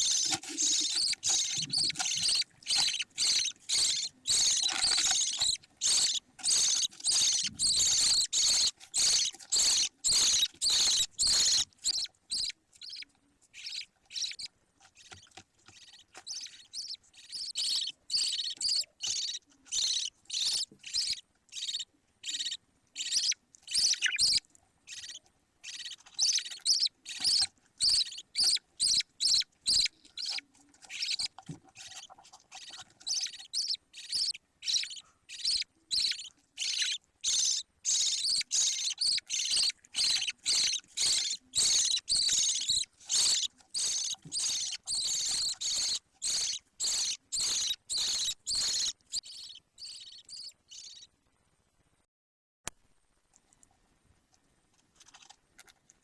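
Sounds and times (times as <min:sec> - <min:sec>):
budgerigar chicks chirping: 0:00.0 - 0:51.1.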